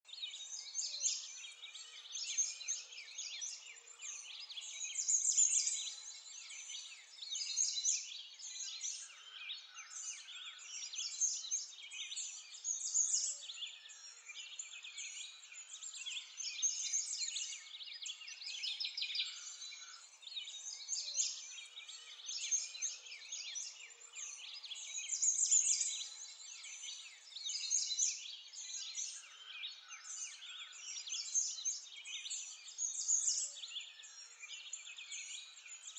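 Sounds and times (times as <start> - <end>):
small birds chirping and singing: 0.0 - 35.9.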